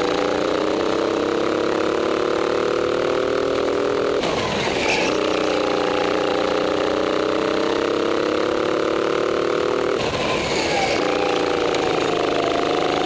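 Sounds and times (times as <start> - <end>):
go-kart engine revving: 0.0 - 13.0.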